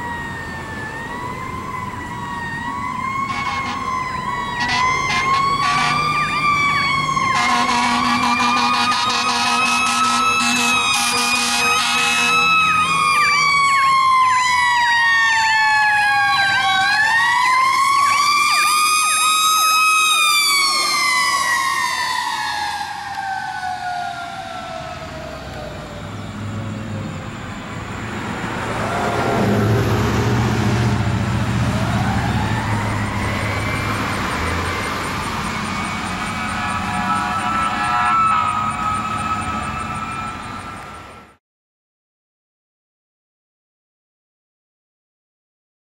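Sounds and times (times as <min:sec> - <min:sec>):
electronic siren tone: 0:00.0 - 0:26.4, 0:30.9 - 0:41.4
truck engine rumble: 0:00.0 - 0:41.4.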